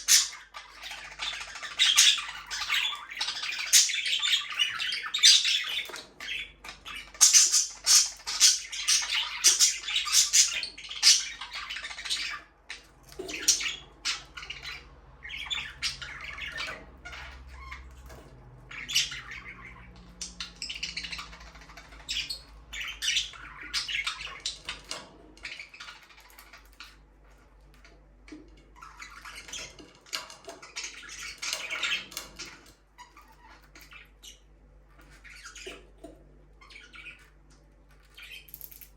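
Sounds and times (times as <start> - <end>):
budgerigars chattering and squawking: 0.0 - 38.5.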